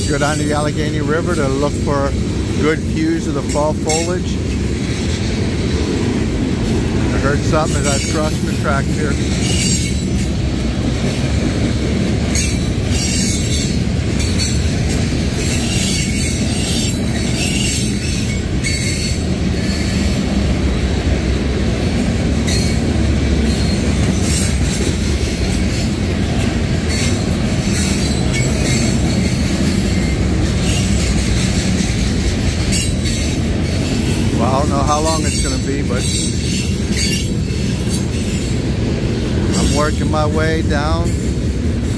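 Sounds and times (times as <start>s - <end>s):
train wheels rumbling on rail: 0.0s - 41.9s.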